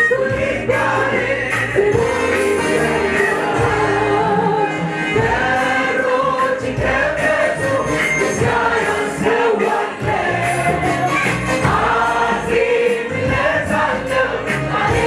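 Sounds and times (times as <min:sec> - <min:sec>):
choir singing gospel song: 0:00.0 - 0:15.0
congregation singing: 0:00.0 - 0:15.0.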